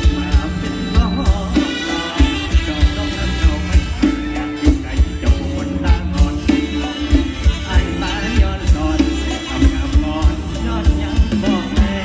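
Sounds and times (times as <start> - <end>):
live folk band music: 0.0 - 12.0.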